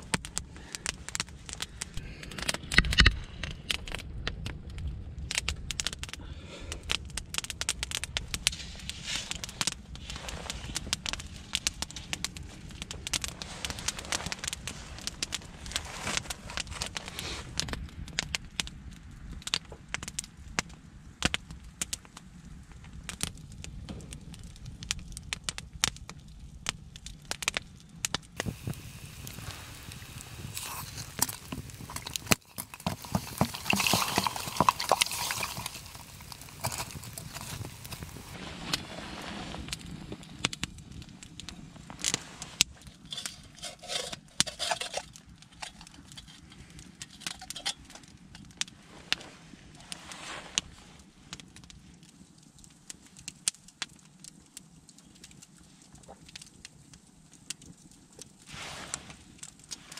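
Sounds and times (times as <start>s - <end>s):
campfire crackling and popping: 0.0s - 59.9s
low rumble of flames: 0.0s - 59.9s.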